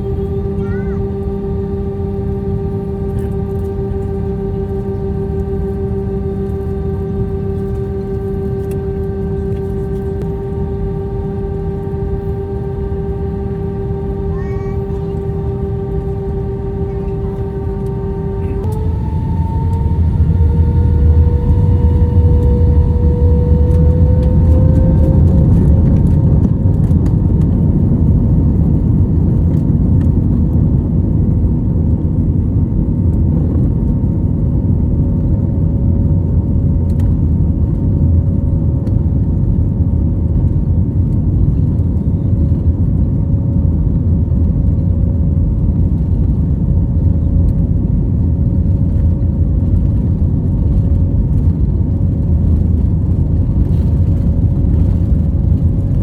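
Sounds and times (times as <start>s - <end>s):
jet engines at takeoff: 0.0s - 56.0s.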